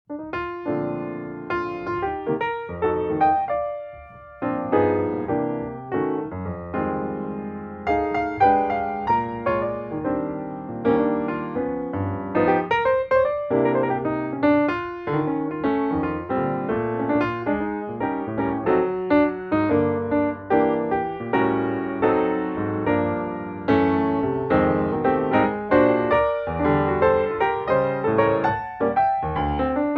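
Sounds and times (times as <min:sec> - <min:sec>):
piano music: 0:00.1 - 0:29.9.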